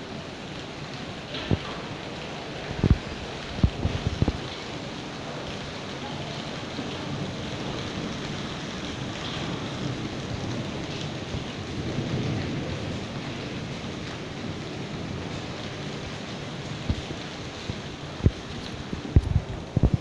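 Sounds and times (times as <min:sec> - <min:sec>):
hail and rain falling on paving: 0:00.0 - 0:20.0.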